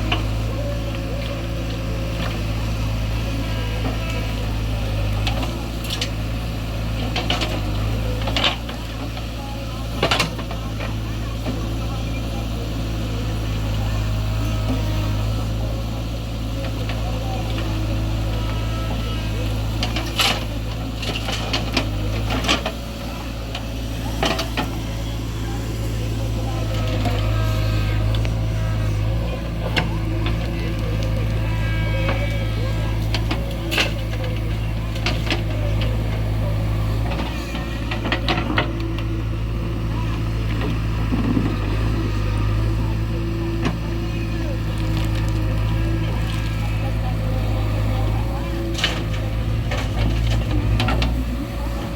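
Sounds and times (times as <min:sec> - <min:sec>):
diesel engine droning: 0:00.0 - 0:51.9.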